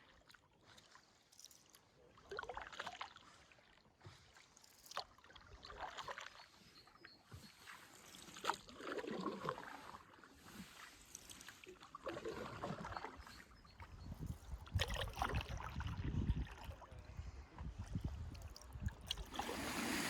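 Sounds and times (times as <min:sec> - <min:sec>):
paddle splashing water: 0:02.2 - 0:13.9, 0:14.6 - 0:20.0.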